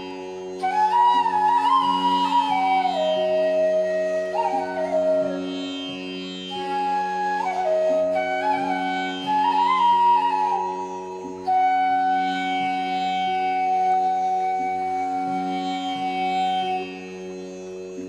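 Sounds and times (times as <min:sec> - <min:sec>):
classical music over a drone: 0:00.0 - 0:18.0.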